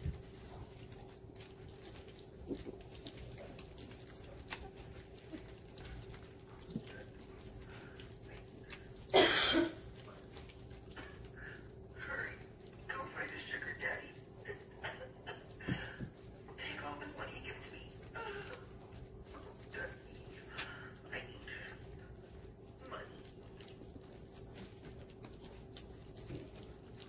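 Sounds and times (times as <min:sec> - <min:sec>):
faint steady hum: 0:00.0 - 0:27.0
paws ticking on metal pans: 0:00.0 - 0:27.0
puppies lapping and chewing: 0:00.0 - 0:27.0.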